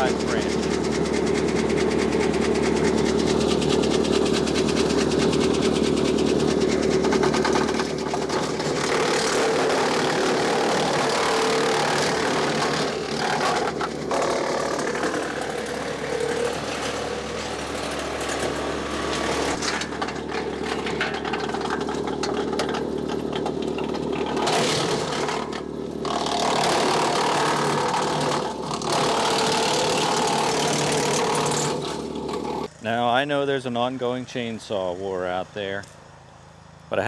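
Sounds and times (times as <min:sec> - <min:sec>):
wood chipper chipping branches: 0:00.0 - 0:32.8
tractor diesel engine drone: 0:00.0 - 0:37.0.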